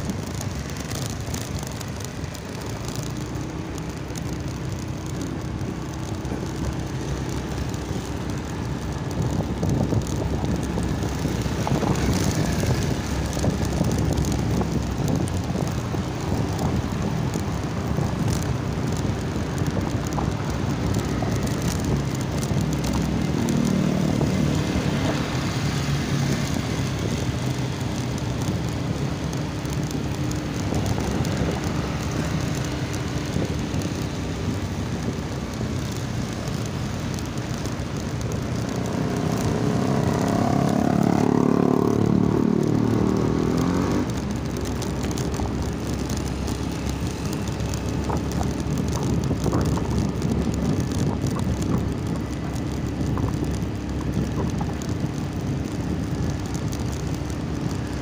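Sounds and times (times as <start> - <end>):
road and wind rumble: 0.0 - 58.0.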